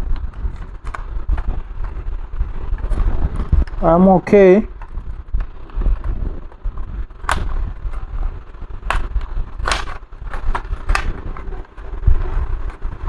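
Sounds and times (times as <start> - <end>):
low handling rumble: 0.0 - 13.0.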